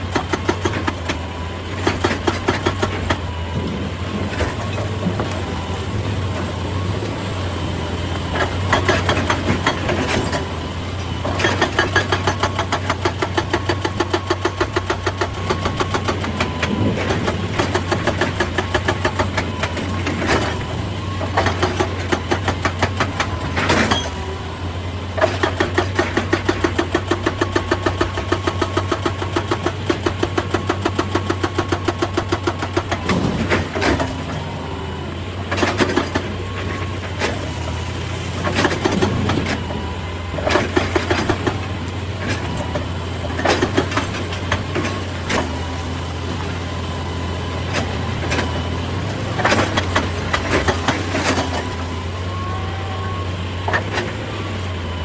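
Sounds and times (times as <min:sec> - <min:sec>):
diesel engine running: 0:00.0 - 0:55.0
hydraulic rock breaker hammering: 0:00.0 - 0:55.0.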